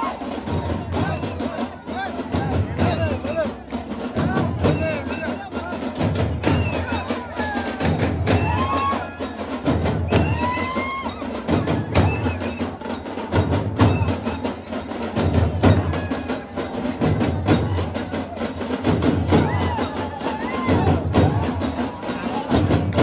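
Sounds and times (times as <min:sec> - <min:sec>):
music with percussive knocks: 0:00.4 - 0:23.0.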